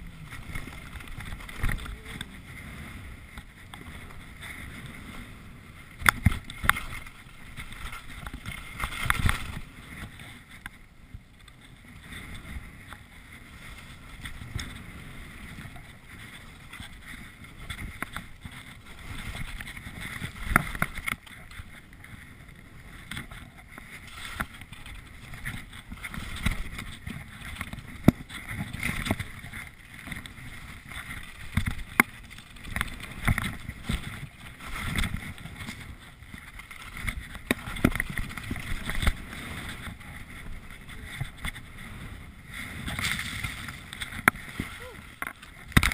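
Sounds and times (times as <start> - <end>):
skis swishing through snow: 0.0 - 45.9.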